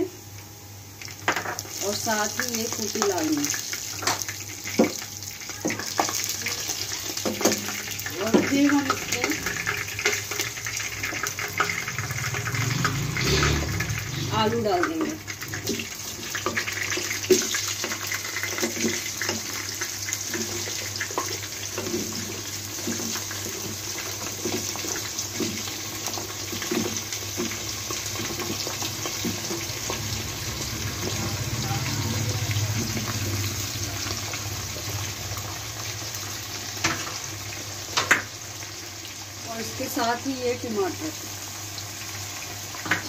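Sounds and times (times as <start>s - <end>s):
hot oil sizzling: 0.0s - 43.0s.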